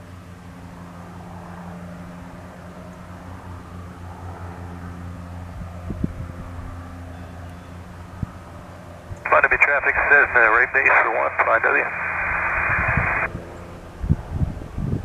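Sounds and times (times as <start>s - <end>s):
piston aircraft engine humming: 0.0s - 14.3s.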